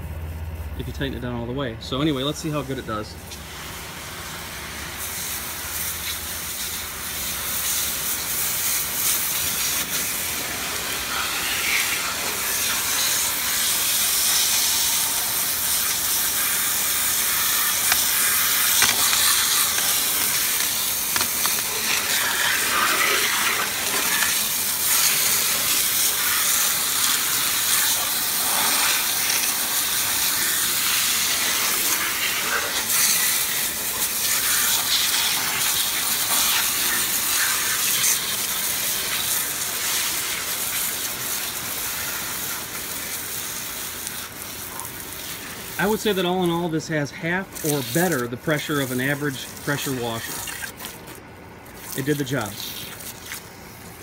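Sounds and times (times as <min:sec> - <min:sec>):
hose water jet hissing: 0:02.1 - 0:54.0
water splashing off metal: 0:02.5 - 0:53.6.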